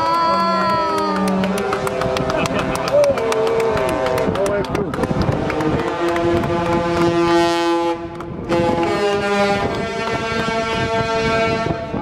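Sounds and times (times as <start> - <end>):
ship's horn blasts: 0.5 - 12.0.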